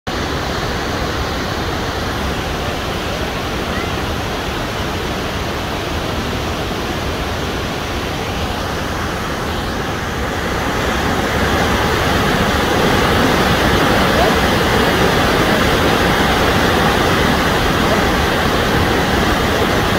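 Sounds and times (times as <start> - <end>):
waterfall rushing over rocks: 0.1 - 19.9.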